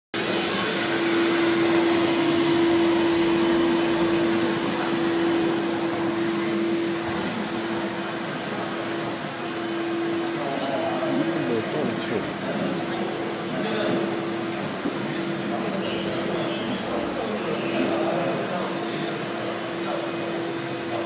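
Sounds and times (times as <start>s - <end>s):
floor scrubber motor hum: 0.2s - 21.0s.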